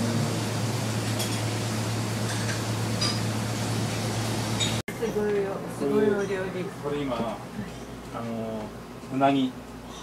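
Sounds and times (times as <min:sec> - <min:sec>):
kitchen machinery humming: 0:00.0 - 0:10.0.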